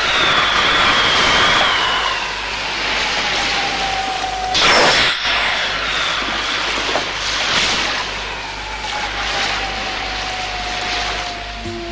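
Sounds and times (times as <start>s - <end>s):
thin falling whistle: 0.0s - 10.1s.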